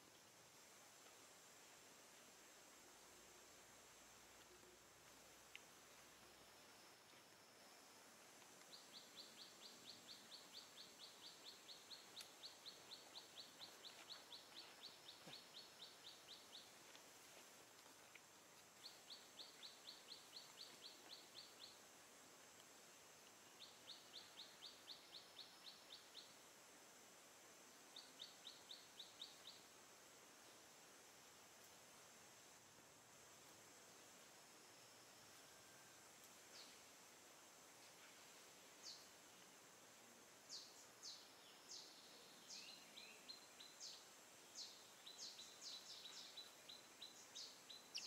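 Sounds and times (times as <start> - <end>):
faint high hiss: 0.0 - 48.0.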